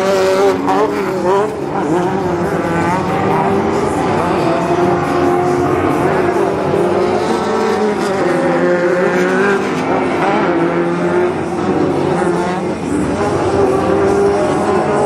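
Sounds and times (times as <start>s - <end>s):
race truck engines revving: 0.0s - 15.0s.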